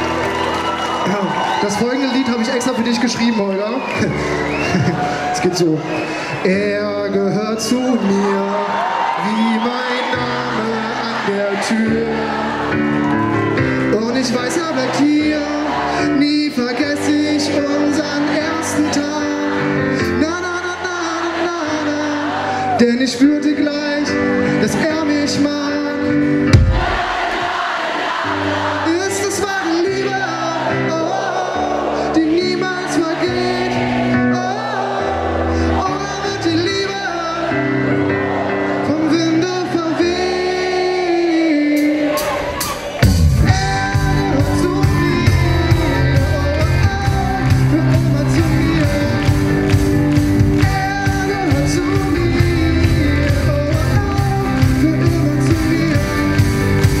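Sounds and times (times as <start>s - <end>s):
live band playing: 0.0s - 9.2s, 10.1s - 57.0s
person singing: 6.4s - 27.3s, 28.7s - 57.0s
keyboard chords: 9.2s - 57.0s.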